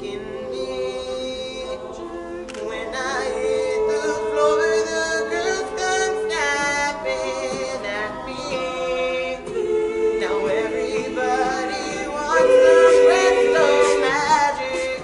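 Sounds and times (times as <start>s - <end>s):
male a cappella group singing: 0.0s - 15.0s.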